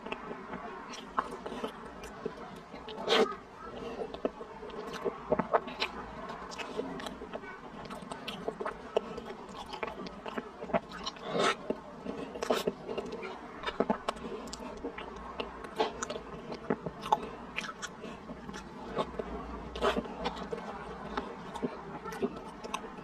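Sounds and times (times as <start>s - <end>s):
wet chewing and lip smacking: 0.0s - 23.0s.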